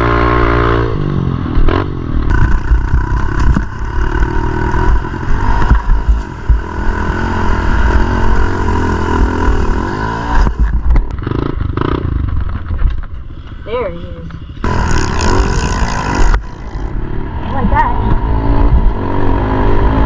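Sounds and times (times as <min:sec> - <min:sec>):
pit bike engine revving: 0:00.0 - 0:20.0
strong low rumble: 0:00.8 - 0:20.0.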